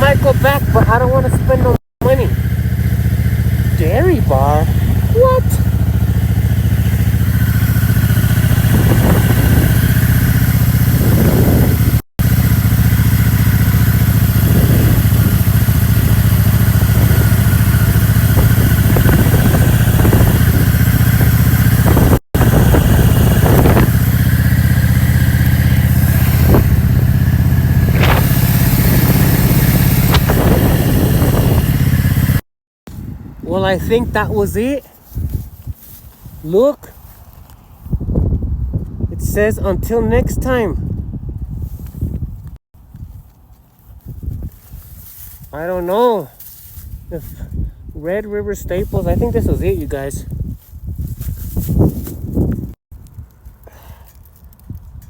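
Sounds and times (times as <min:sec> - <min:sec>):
motorcycle engine running: 0:00.0 - 0:55.0
wind noise: 0:03.8 - 0:12.0, 0:12.6 - 0:55.0.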